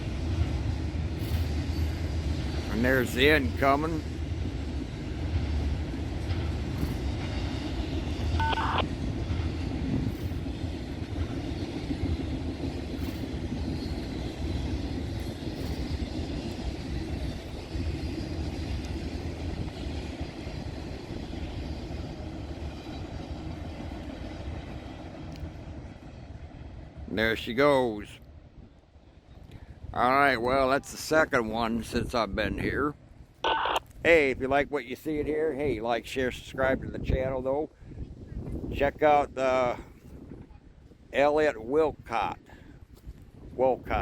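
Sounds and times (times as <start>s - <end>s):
train cars rolling on rails: 0.0s - 44.0s.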